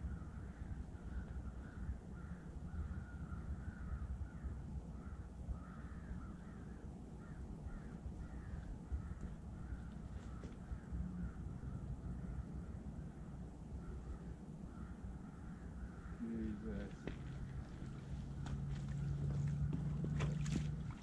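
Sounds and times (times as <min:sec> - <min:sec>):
crows cawing: 0:00.0 - 0:19.7
low steady rumble: 0:00.0 - 0:21.0.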